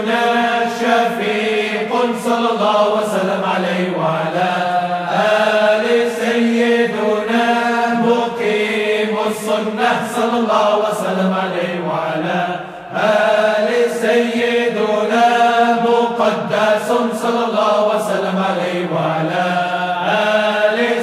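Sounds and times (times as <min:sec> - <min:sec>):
melodic religious chanting: 0:00.0 - 0:21.0.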